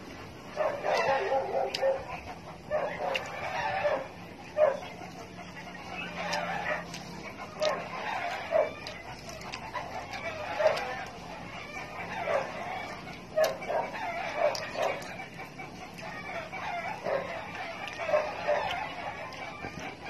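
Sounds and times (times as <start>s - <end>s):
chickens clucking: 0.0s - 20.0s
person chewing: 0.0s - 20.0s.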